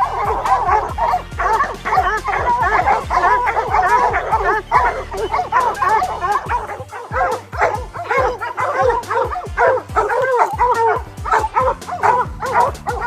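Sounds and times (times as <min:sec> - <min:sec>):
hounds barking and baying: 0:00.0 - 0:13.0.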